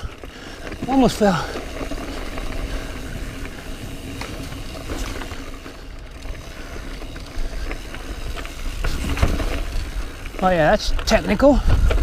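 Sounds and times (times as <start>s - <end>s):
bike clicks and rattles: 0.0s - 12.0s
bike tyres on dirt trail: 0.0s - 12.0s.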